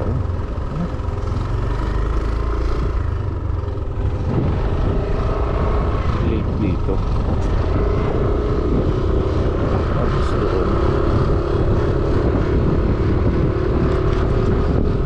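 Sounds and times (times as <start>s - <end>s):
motorcycle engine cruising: 0.0s - 15.0s
wind rumble on microphone: 0.0s - 15.0s.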